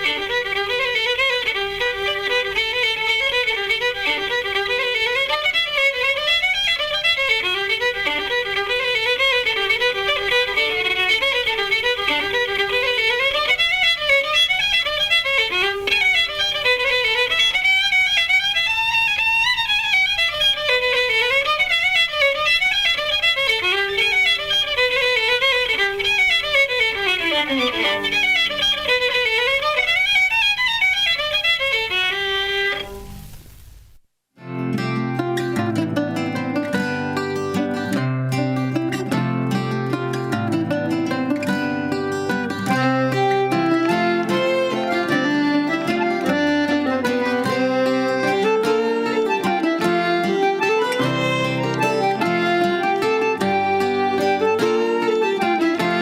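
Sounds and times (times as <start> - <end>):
fiddle playing a fast folk tune: 0.0 - 32.8, 34.8 - 56.0.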